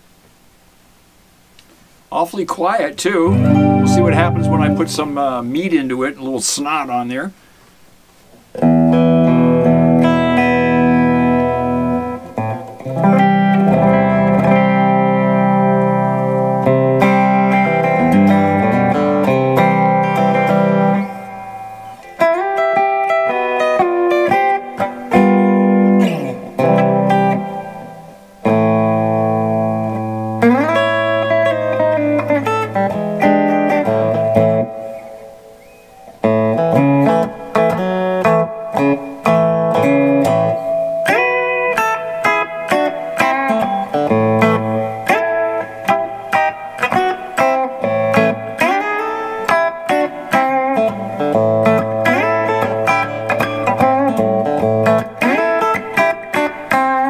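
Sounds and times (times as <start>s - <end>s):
electric guitar playing: 2.4s - 57.0s.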